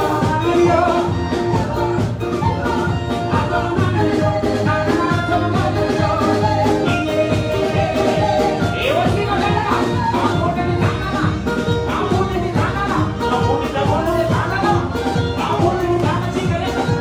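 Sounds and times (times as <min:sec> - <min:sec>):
live dance music with singer: 0:00.0 - 0:17.0.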